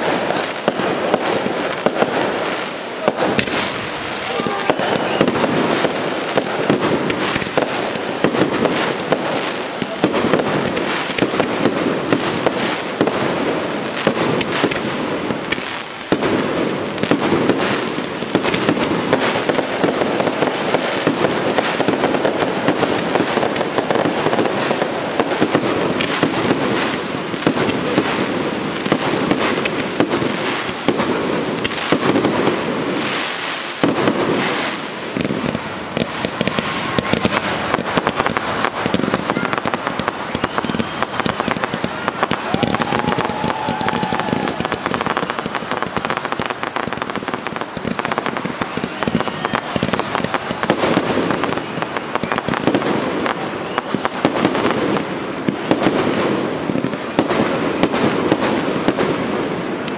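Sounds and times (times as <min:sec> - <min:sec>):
fireworks launching and bursting: 0:00.0 - 0:59.9.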